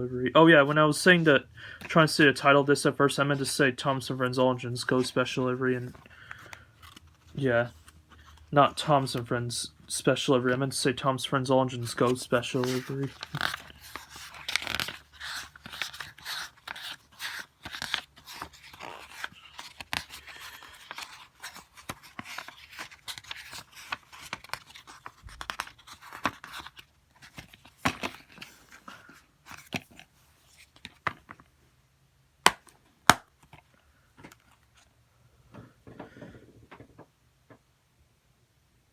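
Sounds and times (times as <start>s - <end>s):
rustling of paper inserts: 0.4s - 31.6s.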